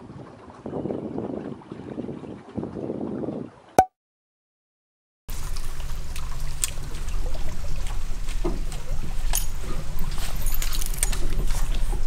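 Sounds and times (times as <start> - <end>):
water sloshing and gurgling: 0.0 - 3.8, 5.3 - 12.0.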